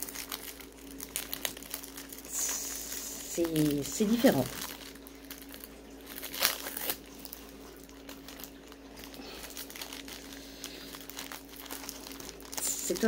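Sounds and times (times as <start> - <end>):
faint steady hum: 0.0 - 13.0
packaging rustling and crinkling: 0.0 - 13.0.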